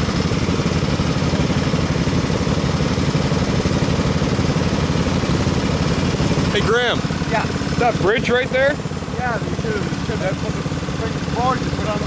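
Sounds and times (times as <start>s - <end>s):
garden tractor engine running: 0.0s - 12.0s.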